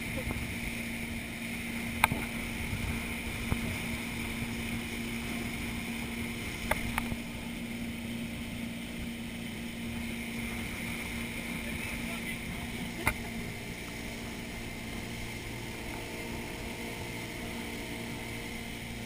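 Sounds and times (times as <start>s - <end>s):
wind on microphone: 0.0s - 18.7s
motorboat engine running: 0.0s - 19.0s
rushing wake water: 0.0s - 19.0s.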